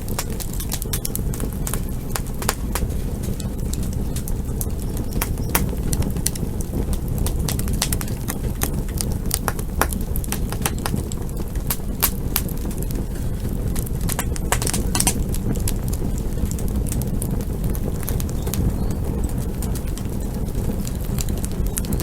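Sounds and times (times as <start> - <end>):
campfire crackling and popping: 0.0 - 22.0
low rumble of fire: 0.0 - 22.0.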